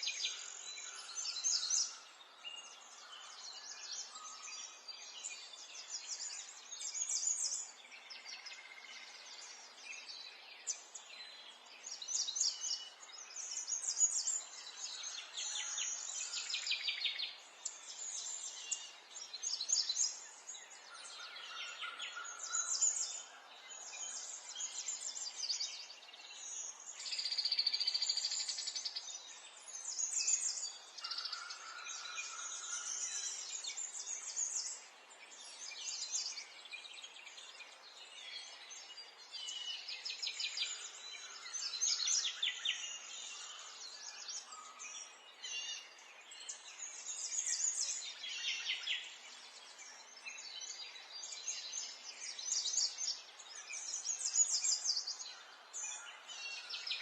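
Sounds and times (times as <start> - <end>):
faint background hiss: 0.0 - 57.0
songbirds singing and chirping: 0.0 - 57.0.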